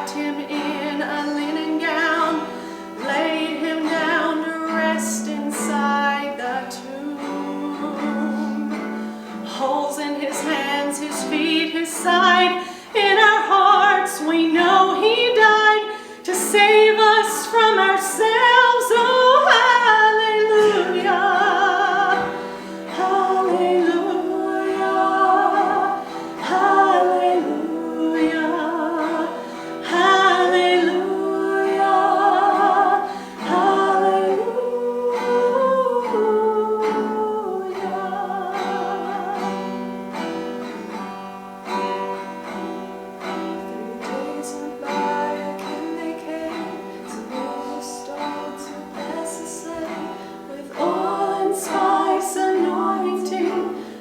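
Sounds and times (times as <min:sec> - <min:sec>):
voices singing with vibrato: 0:00.0 - 0:39.8, 0:43.3 - 0:54.0
plucked string instrument: 0:00.0 - 0:54.0.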